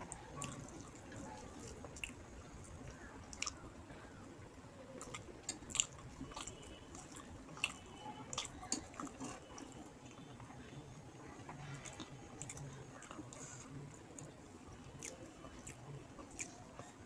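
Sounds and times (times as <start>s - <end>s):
person chewing food: 0.0s - 3.8s, 4.9s - 17.0s.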